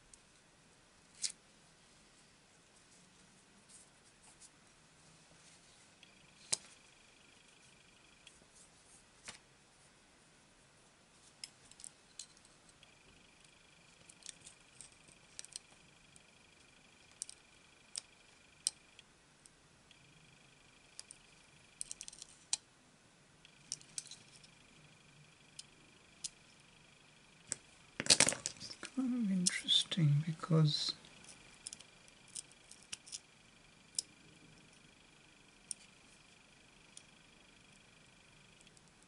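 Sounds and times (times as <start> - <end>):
faint high whine: 0.0 - 39.0.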